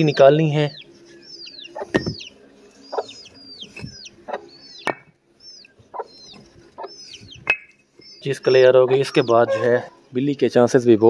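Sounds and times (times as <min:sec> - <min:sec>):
hens clucking: 0:00.0 - 0:10.4
chicks peeping: 0:00.0 - 0:11.0.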